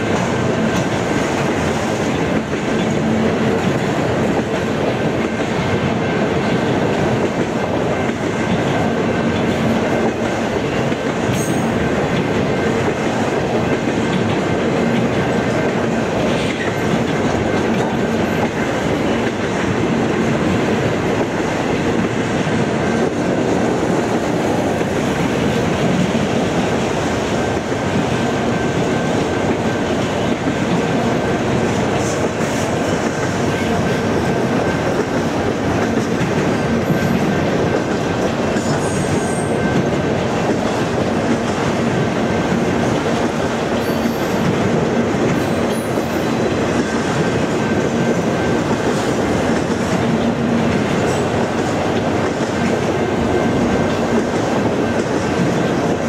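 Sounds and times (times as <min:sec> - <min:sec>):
steel wheels running on rails: 0:00.0 - 0:56.0.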